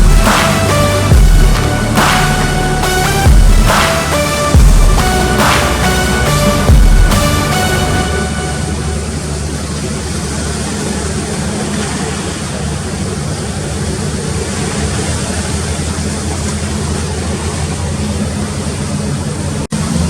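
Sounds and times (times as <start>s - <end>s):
ship engines droning: 0.0s - 20.0s.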